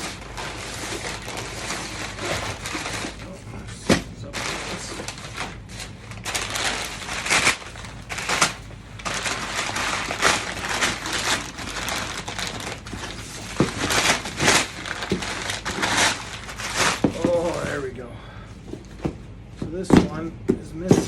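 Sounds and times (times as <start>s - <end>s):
packing material rustling: 0.0s - 18.0s.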